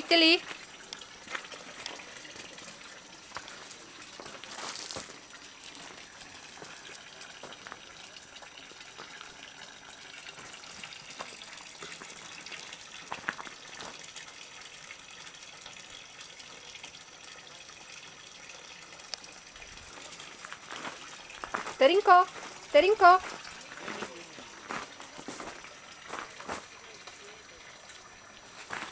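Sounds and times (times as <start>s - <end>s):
running water rushing: 0.0s - 28.9s.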